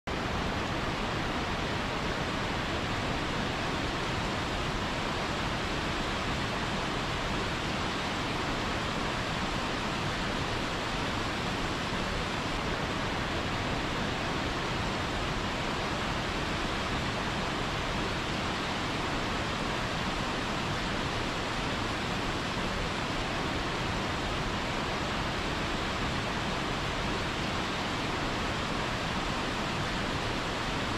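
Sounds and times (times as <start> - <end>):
waterfall rushing onto boulders: 0.1 - 30.9.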